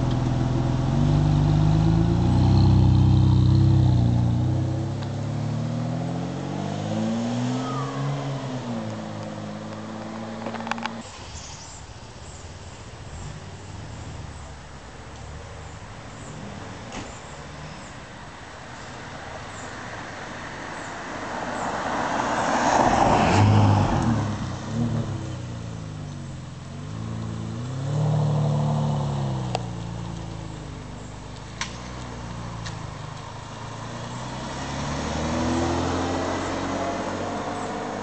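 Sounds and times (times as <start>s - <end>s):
car engine passing by: 0.0s - 18.0s, 19.0s - 38.0s.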